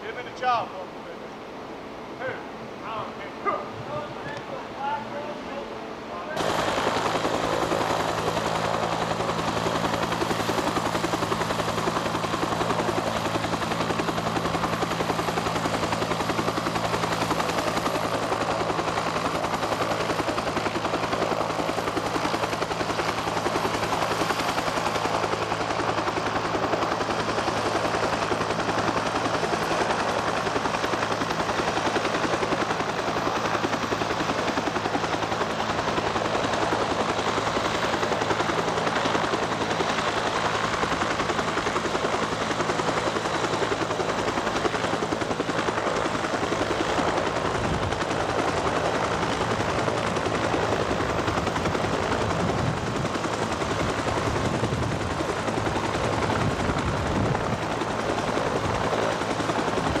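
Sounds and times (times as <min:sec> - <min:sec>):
turbine noise: 0:00.0 - 1:00.0
helicopter rotor blade chop: 0:02.2 - 1:00.0.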